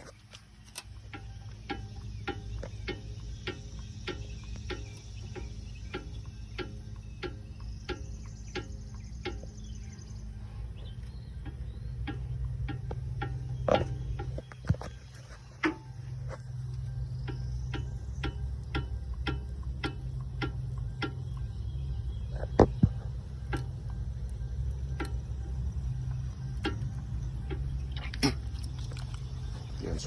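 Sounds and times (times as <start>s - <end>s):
low steady hum: 0.0s - 30.0s
regular ticking: 0.0s - 30.0s.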